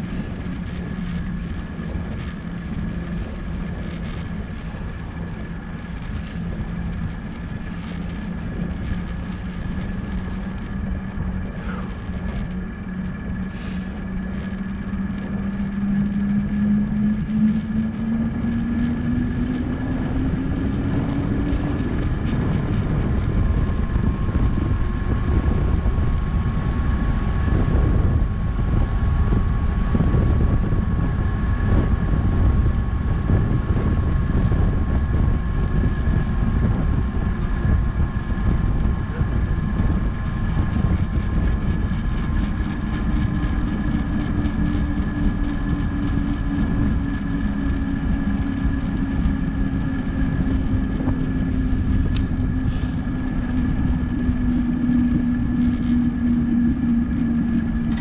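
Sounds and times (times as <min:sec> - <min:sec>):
bicycle tyres rumbling on road: 0:00.0 - 0:58.0
low hum rising in pitch: 0:00.0 - 0:58.0
wind: 0:00.0 - 0:58.0.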